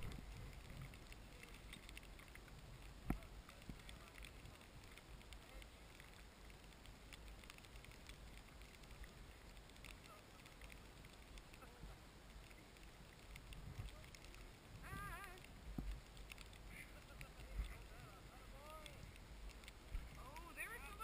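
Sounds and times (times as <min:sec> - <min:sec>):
faint low rumble and hiss: 0:00.0 - 0:21.0
tiny ticks: 0:00.0 - 0:21.0.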